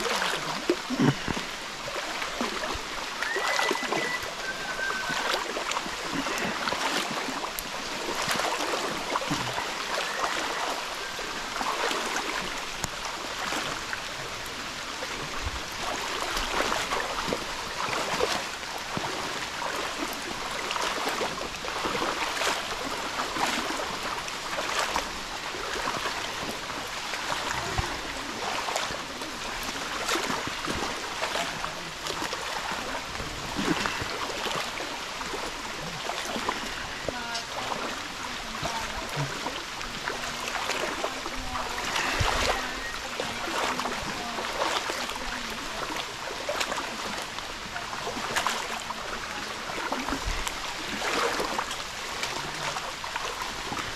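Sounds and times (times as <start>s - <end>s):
people wading through water: 0.0s - 53.9s.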